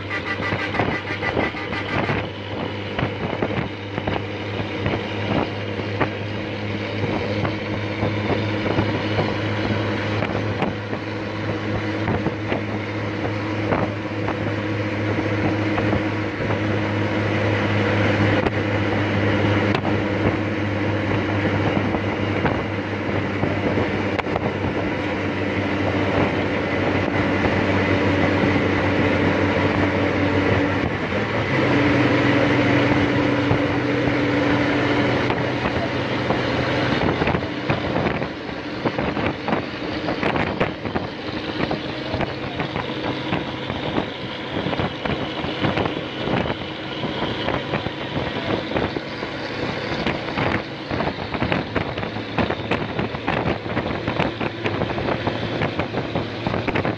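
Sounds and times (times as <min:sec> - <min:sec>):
wind buffeting on microphone: 0:00.0 - 0:16.8, 0:18.0 - 0:56.9
bus diesel engine drone: 0:00.0 - 0:56.9
road and wind noise: 0:00.0 - 0:56.9.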